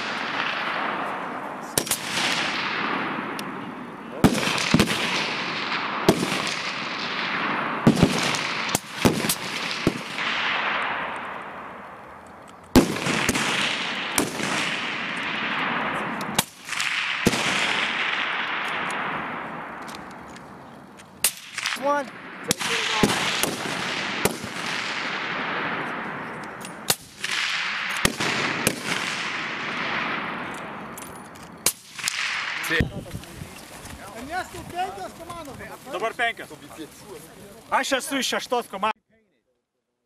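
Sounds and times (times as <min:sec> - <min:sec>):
rifle shots echoing: 0:00.0 - 0:33.0.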